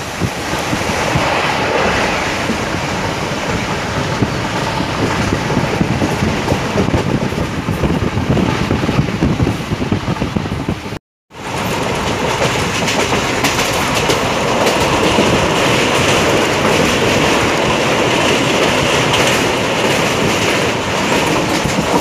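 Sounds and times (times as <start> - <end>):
train running on track: 0.0 - 22.0.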